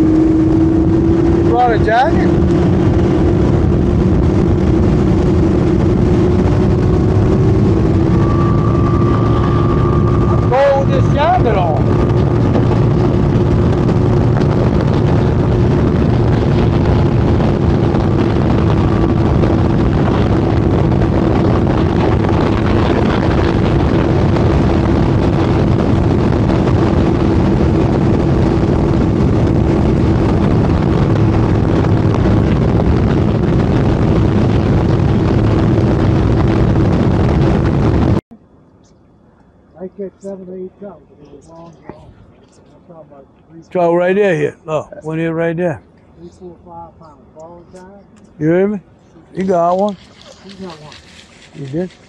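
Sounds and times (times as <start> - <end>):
wind rush on microphone: 0.0 - 38.3, 39.8 - 52.0.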